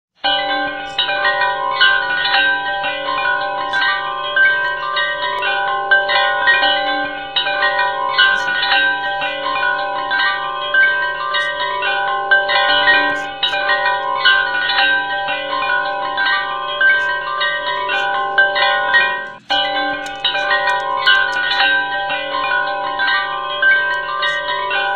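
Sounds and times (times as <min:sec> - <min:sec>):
bell-like chimes music: 0:00.2 - 0:24.9.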